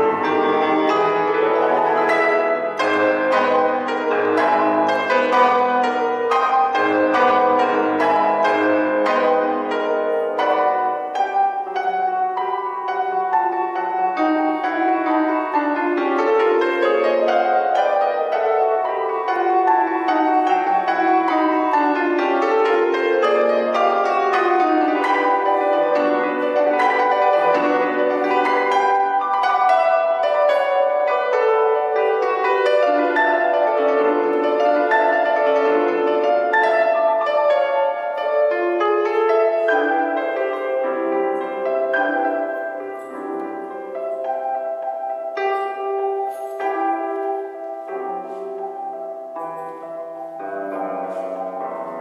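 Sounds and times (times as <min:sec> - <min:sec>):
classical piano piece: 0:00.0 - 0:52.0.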